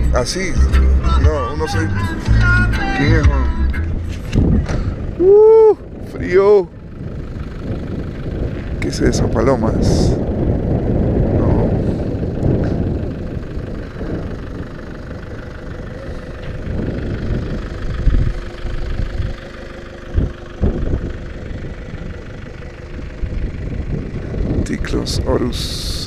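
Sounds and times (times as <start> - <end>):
pickup engine idling: 0.0 - 26.0.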